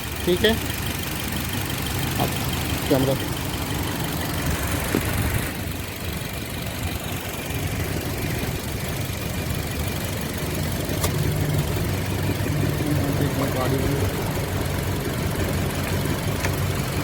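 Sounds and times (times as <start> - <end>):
car engine idling with misfire: 0.0 - 17.0.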